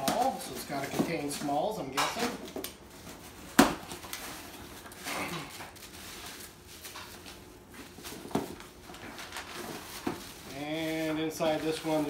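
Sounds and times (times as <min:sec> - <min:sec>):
bubble wrap rustling: 0:00.0 - 0:12.0.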